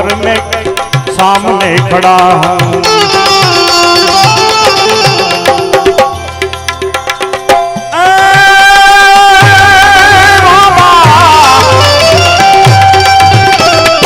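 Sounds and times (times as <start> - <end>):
hand drum beats: 0.0 - 14.0.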